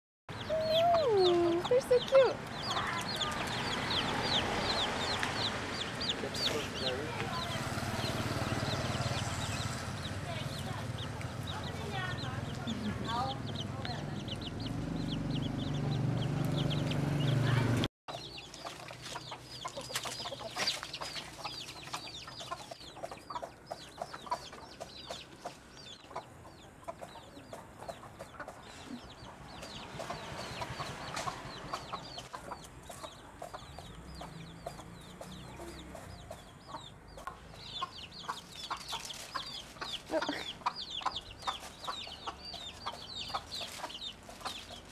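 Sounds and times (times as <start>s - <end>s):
chicks peeping: 0.3s - 44.9s
hens clucking: 0.4s - 44.9s.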